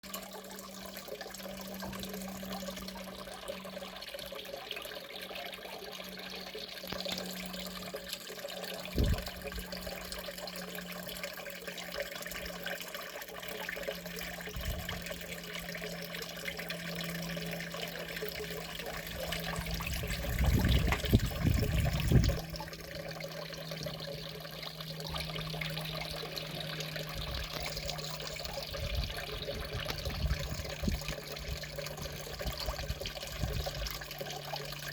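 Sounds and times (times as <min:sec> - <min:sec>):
constant low hum: 0:00.0 - 0:34.9
trickling water: 0:00.0 - 0:34.9.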